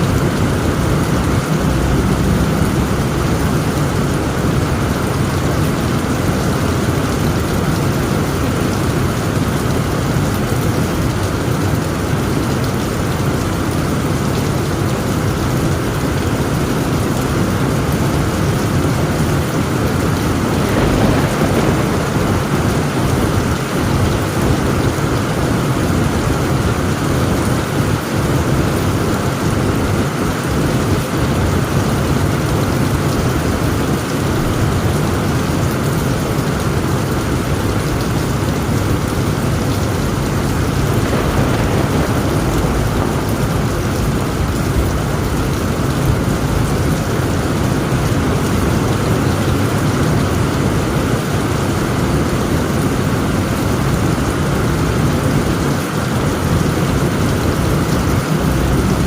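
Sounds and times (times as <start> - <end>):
heavy rain on a tent roof: 0.0 - 59.0
thunder rumbling: 0.0 - 59.0.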